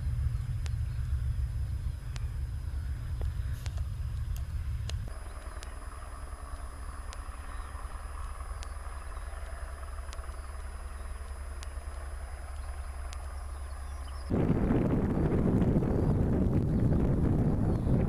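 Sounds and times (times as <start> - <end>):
helicopter flying low: 0.0 - 18.0
propeller plane engines rumbling: 0.0 - 18.0.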